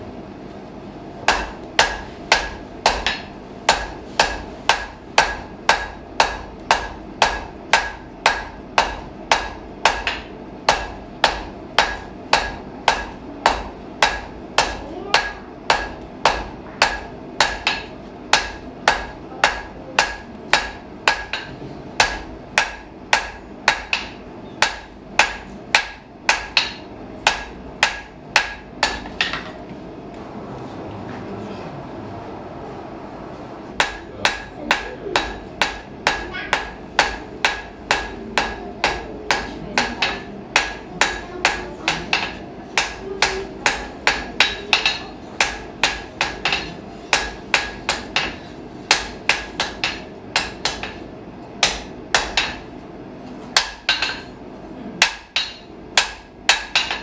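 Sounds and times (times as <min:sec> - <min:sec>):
hammer striking iron on anvil: 0:01.3 - 0:29.6, 0:33.8 - 0:52.7, 0:53.6 - 0:54.4, 0:55.0 - 0:57.0.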